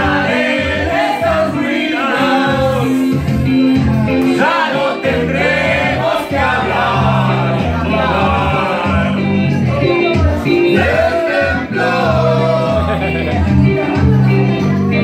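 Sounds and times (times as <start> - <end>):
people singing into microphones: 0.0 - 14.8
instrumental music: 0.0 - 15.0.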